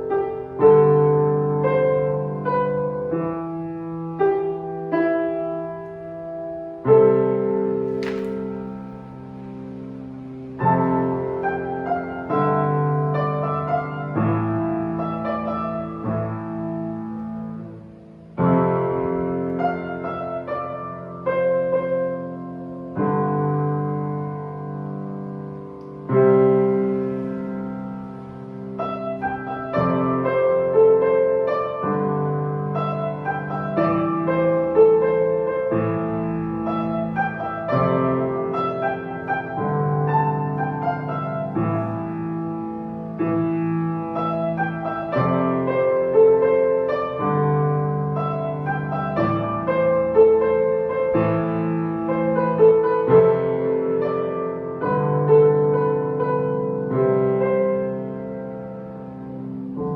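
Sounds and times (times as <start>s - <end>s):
solo piano playing: 0.0s - 59.9s.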